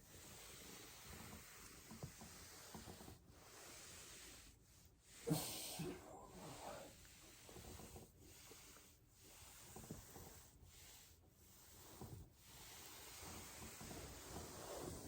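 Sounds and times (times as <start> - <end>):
body rubbing on foam roller: 0.0 - 15.0.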